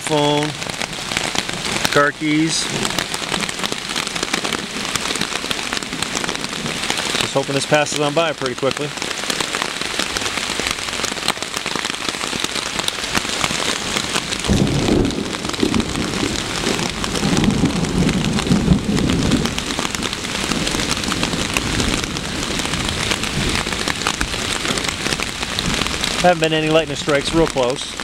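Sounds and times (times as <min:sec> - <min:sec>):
thunder rumbling: 0:00.0 - 0:08.4, 0:12.8 - 0:28.0
rain pattering on tarp: 0:00.0 - 0:28.0.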